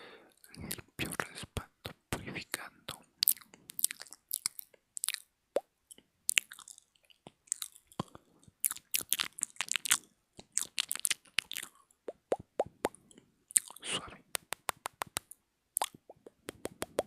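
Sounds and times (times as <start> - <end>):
wet mouth clicks and smacks: 0.4 - 17.0.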